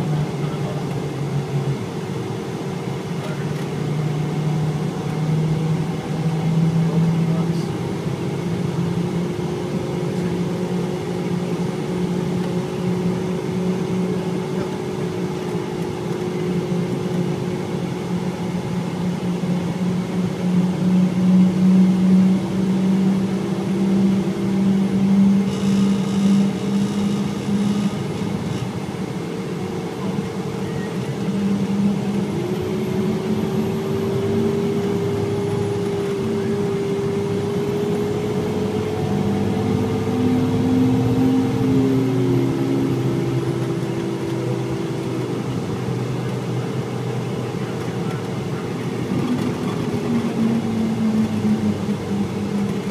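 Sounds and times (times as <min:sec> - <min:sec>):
vehicle engine hum from inside: 0:00.0 - 0:52.9.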